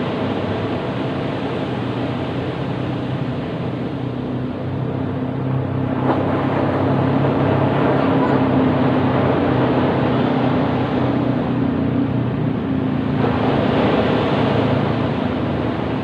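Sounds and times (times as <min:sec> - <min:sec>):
low hum: 0:00.0 - 0:16.0
ocean surf on beach: 0:00.0 - 0:16.0.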